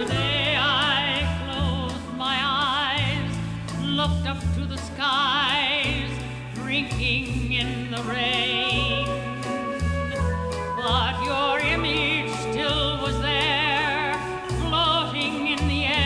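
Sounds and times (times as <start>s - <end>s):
instrumental accompaniment with bass: 0.0s - 16.0s
woman singing with vibrato: 0.0s - 16.0s.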